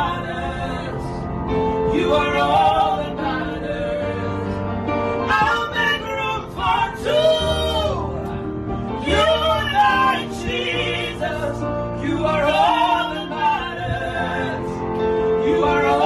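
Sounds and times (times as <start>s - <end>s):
gospel worship singing: 0.0s - 16.0s
instrumental backing: 0.0s - 16.0s.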